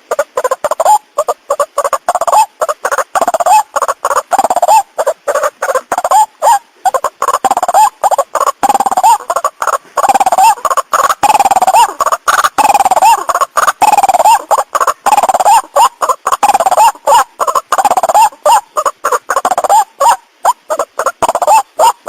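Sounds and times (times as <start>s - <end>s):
waterhen harsh repeated call: 0.0s - 22.0s.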